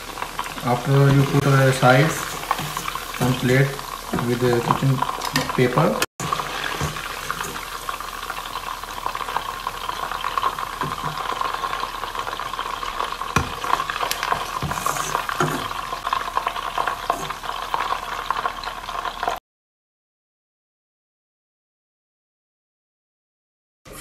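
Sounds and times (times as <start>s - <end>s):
chicken deep-frying in oil: 0.0s - 19.4s.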